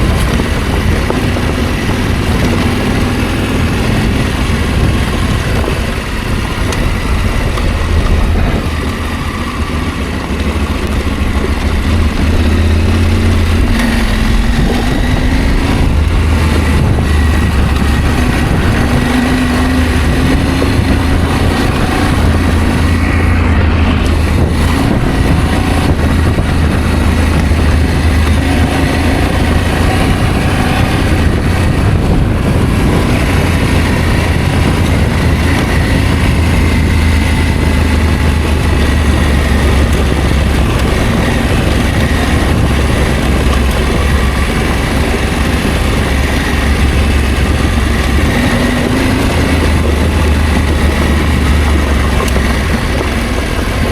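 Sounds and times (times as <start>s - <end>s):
motorcycle engine drone: 0.0s - 53.9s
wind and road noise: 0.0s - 53.9s.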